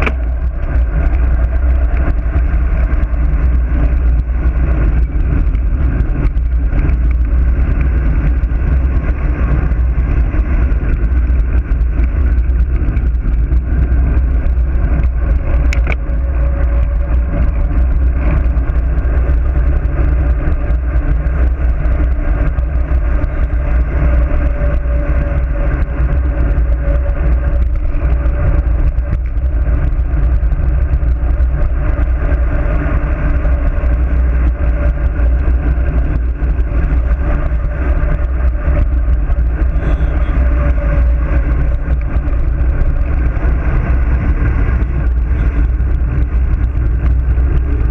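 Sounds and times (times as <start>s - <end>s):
wind and road rumble: 0.0s - 47.9s.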